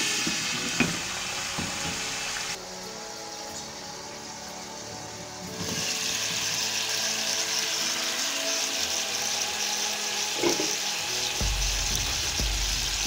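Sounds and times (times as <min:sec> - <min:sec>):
fish frying sizzle: 0:00.0 - 0:13.0.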